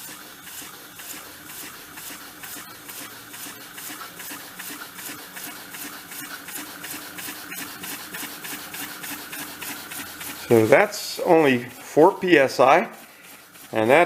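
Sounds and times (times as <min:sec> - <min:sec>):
steam engine exhaust puffing: 0:00.0 - 0:14.0.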